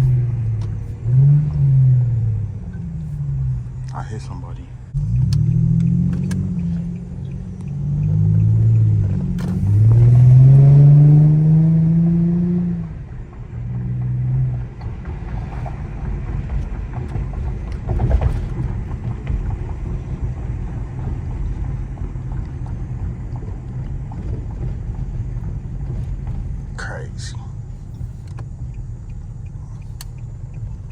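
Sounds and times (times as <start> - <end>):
car engine revving: 0.0 - 30.9
exhaust low drone: 0.0 - 30.9.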